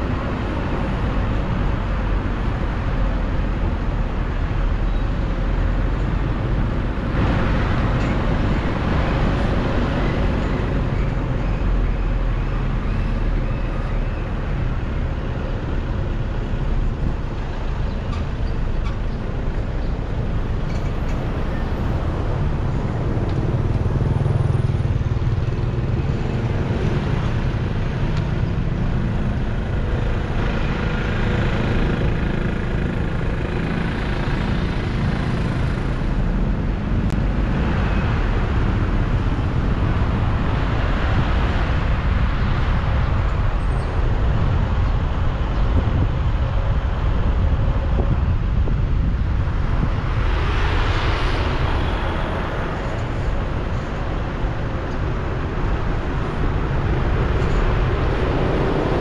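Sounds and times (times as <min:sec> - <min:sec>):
traffic rumble: 0:00.0 - 0:59.0
vehicles passing by: 0:00.0 - 0:59.0.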